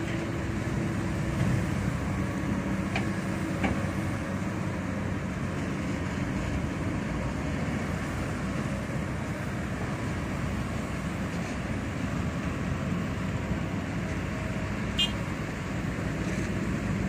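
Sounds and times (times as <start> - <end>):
excavator diesel engines rumbling: 0.0 - 17.0.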